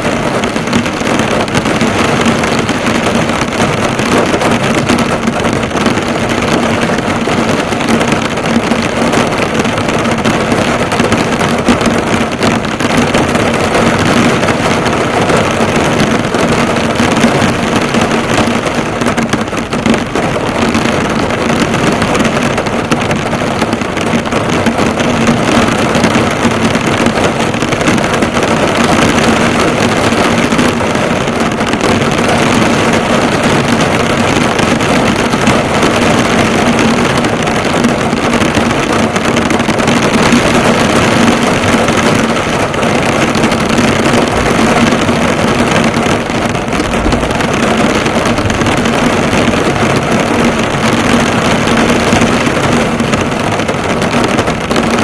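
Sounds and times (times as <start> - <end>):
heavy rain drumming on car: 0.0 - 55.0.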